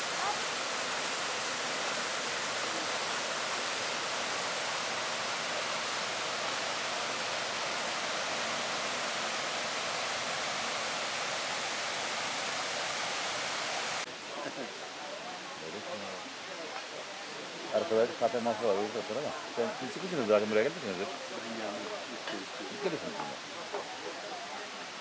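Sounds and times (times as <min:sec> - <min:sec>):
waterfall pouring into pool: 0:00.0 - 0:25.0.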